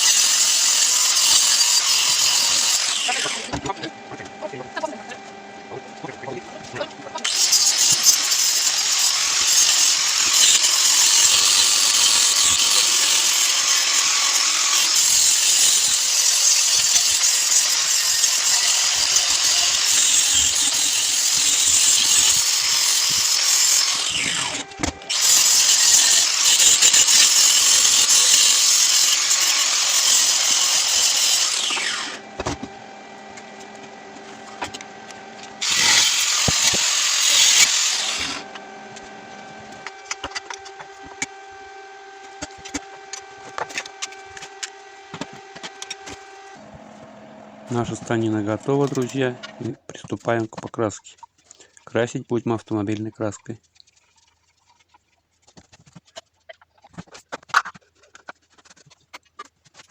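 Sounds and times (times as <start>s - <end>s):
angle grinder grinding steel: 0.0s - 49.8s.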